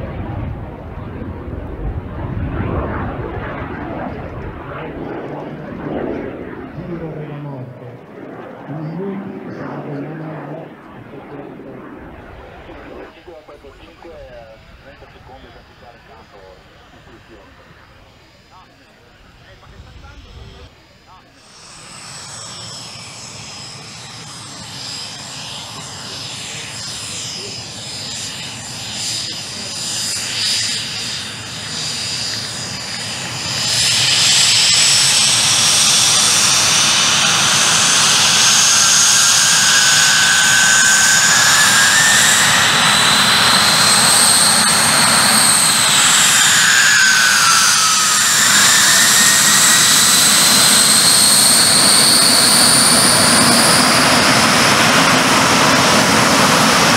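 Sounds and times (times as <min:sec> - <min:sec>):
jet engine whine and roar: 0:00.0 - 0:56.9.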